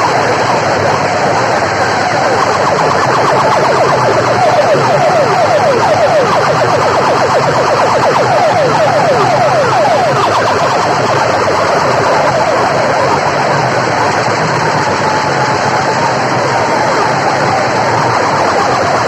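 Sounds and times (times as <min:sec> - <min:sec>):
electronic siren-like chirps: 0:00.0 - 0:19.0.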